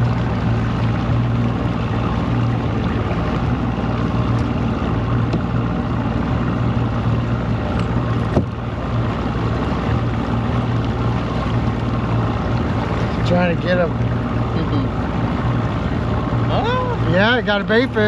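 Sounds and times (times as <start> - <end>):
outboard motor running: 0.0 - 18.0
water noise: 0.0 - 18.0
wind: 0.0 - 18.0.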